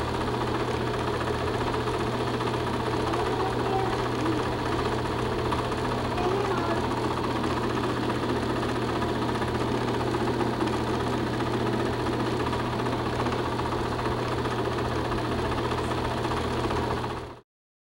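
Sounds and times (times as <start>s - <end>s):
constant low hum: 0.0s - 16.6s
film projector whir and clatter: 0.0s - 17.4s.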